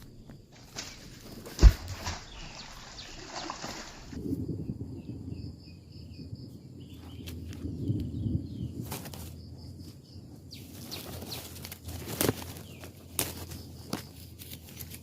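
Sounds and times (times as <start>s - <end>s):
small birds chirping: 0.7s - 15.0s.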